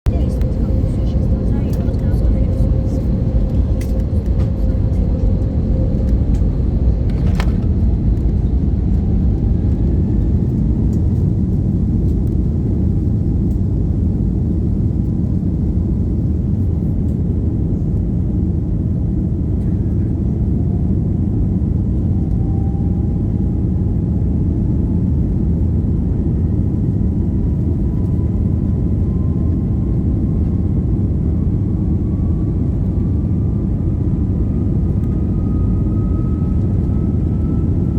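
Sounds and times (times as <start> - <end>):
airplane cabin rumble: 0.0 - 37.9
jet engine whine rising: 0.1 - 14.9, 20.5 - 37.9.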